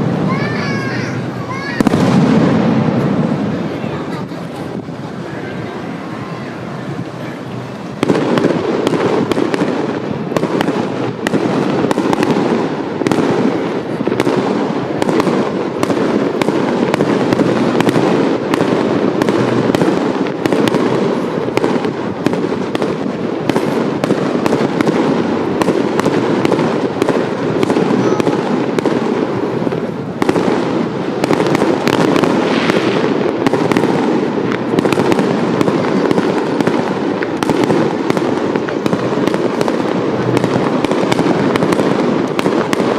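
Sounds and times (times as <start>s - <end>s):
fireworks bursting and crackling: 0.0s - 42.9s.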